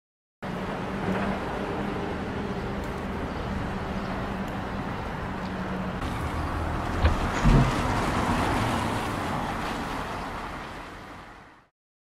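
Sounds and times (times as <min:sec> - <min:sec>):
street traffic: 0:00.4 - 0:11.7.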